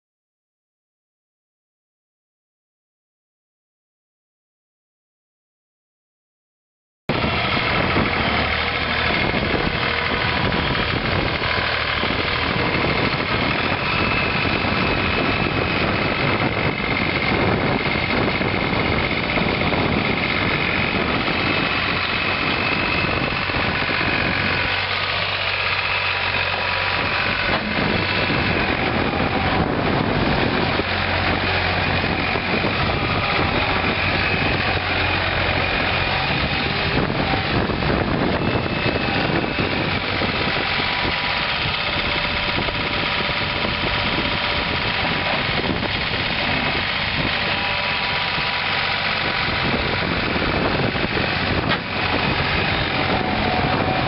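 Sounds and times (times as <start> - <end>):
diesel engine running: 7.1 - 54.0.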